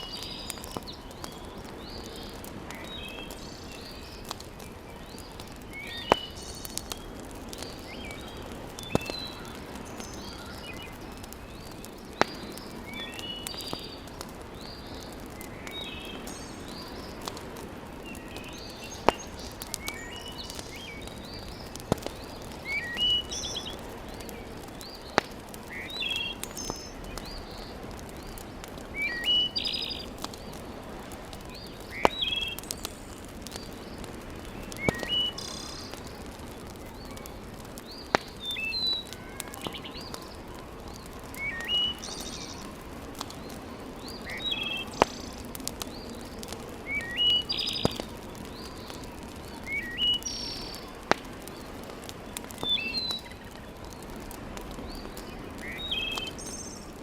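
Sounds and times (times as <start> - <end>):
small birds chirping: 0.0 - 57.0
wood fire crackling and popping: 0.0 - 57.0.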